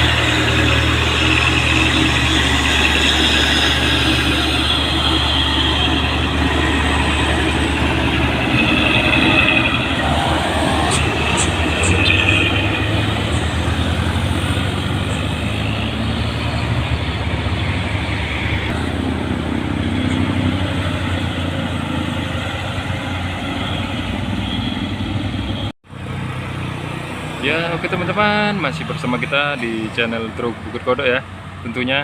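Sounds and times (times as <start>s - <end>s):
diesel truck engine droning: 0.0s - 32.0s
road noise: 0.0s - 32.0s.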